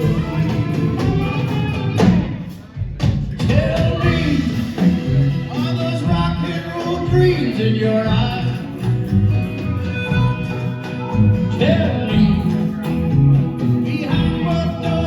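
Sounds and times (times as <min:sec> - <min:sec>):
folk-rock band playing: 0:00.0 - 0:15.0.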